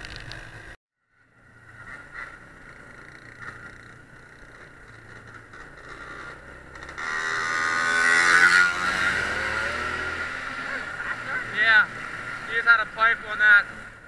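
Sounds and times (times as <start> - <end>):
atv engine running and revving: 0.0 - 14.0.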